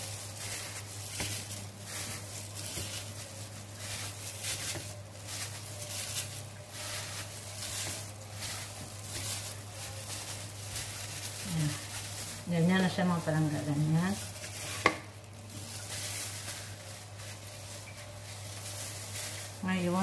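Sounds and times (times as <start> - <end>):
gloved hands rustling and tapping: 0.3 - 19.6.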